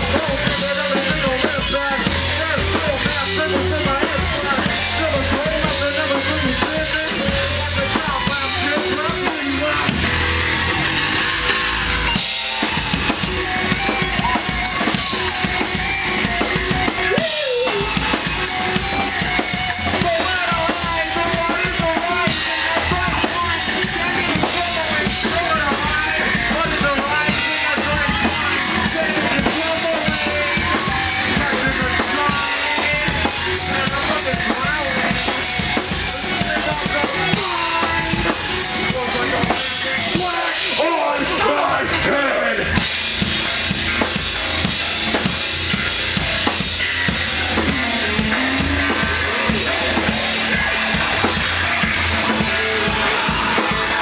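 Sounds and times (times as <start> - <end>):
guitar: 0.0 - 54.0
live rock band: 0.0 - 54.0.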